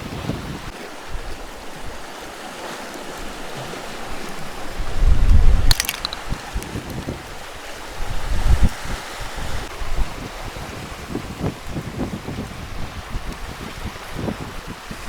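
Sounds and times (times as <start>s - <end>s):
waves: 0.0s - 15.0s.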